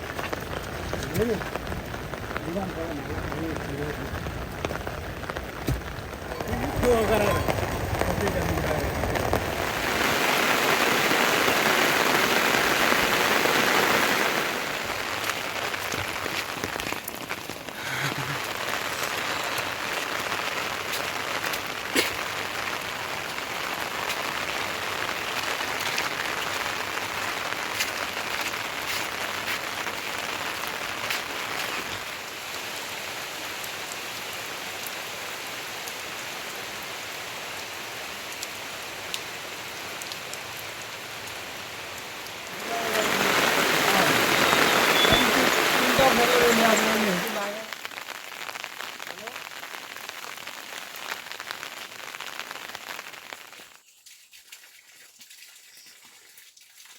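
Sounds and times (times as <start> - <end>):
rain falling steadily: 0.0 - 56.9.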